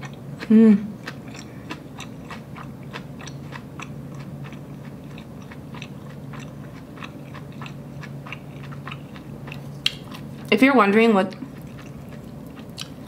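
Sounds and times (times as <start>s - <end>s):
chewing with wet mouth clicks: 0.0s - 0.2s, 1.0s - 10.5s, 11.3s - 13.0s
low steady hum: 0.0s - 13.0s.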